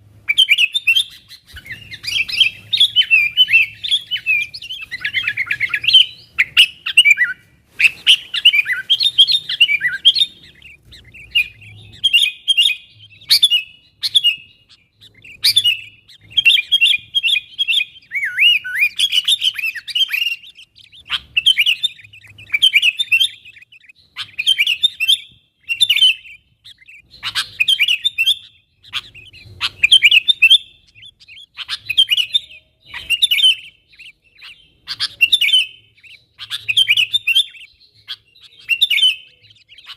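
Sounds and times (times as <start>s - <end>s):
bulbul chattering calls: 0.3s - 39.9s.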